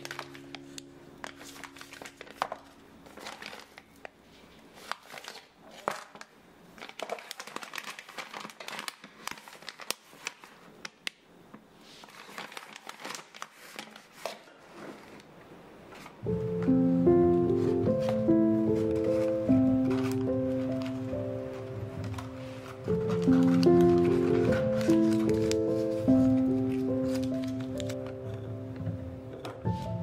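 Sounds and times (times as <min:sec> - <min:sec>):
plastic packets crinkling: 0:00.0 - 0:11.2, 0:11.8 - 0:15.3, 0:17.5 - 0:30.0.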